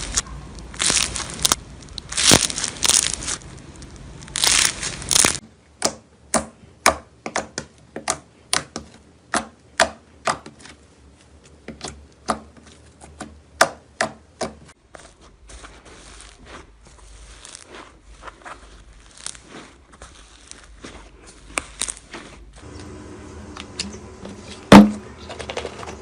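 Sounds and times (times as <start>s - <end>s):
slime squishing: 0.0s - 22.6s.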